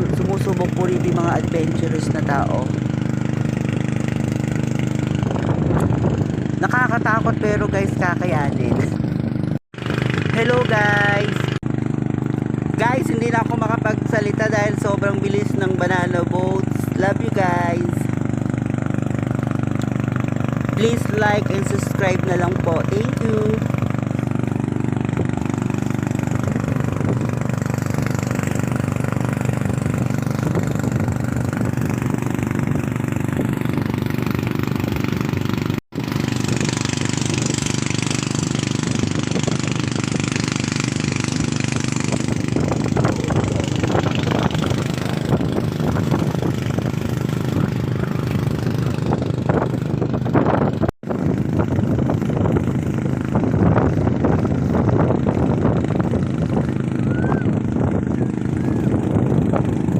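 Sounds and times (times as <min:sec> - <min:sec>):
boat engine running: 0:00.0 - 0:59.9
wind and water noise: 0:00.0 - 0:59.9.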